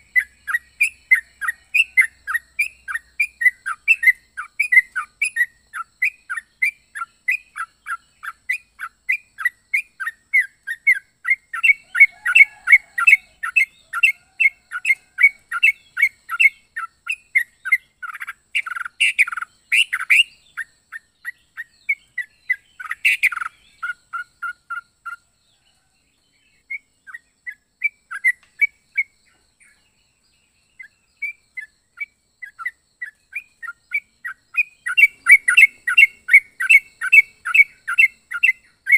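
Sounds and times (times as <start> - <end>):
bird chattering chirps: 0.0 - 25.3, 26.5 - 29.9, 30.6 - 38.9.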